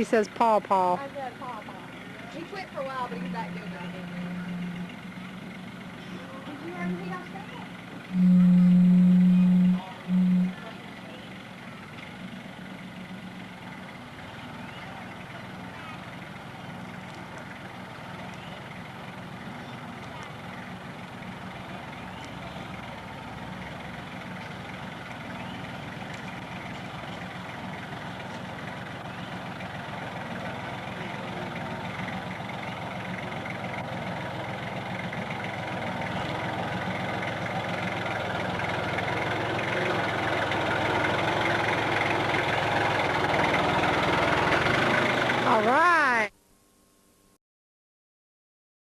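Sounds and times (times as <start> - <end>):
tractor engine running: 0.0 - 46.3.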